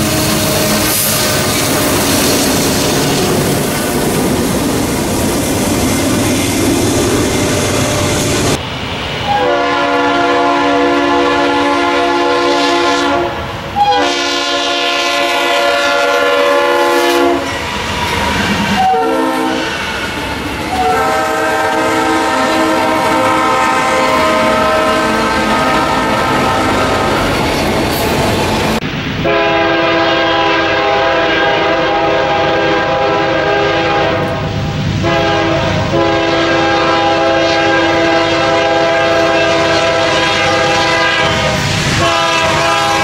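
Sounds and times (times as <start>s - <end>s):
train air horn blasts: 0.0s - 4.0s, 7.3s - 8.6s, 9.2s - 27.4s, 29.2s - 43.0s
diesel locomotive rumbling past: 0.0s - 43.0s.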